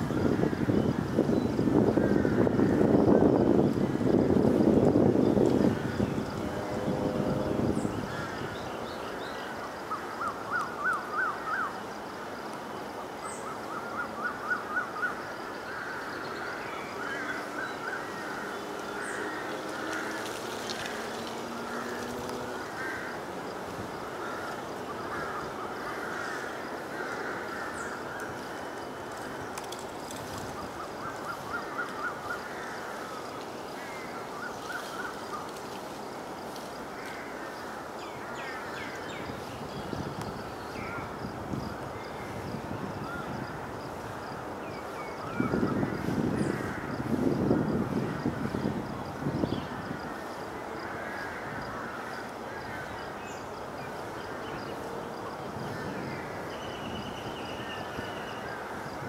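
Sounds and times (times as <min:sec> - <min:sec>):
background hiss: 0:00.0 - 0:59.0
birds calling: 0:00.0 - 0:59.0.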